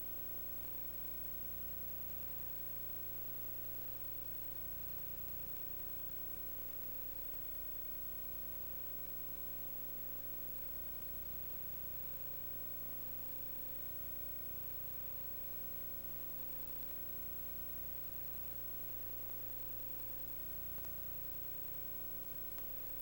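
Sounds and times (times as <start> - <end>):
constant mid-pitched tone: 0.0 - 23.0
electrical hum and hiss: 0.0 - 23.0.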